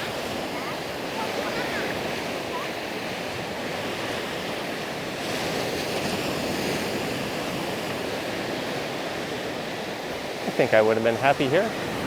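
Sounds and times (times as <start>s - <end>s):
surf washing onto sand: 0.0s - 12.0s.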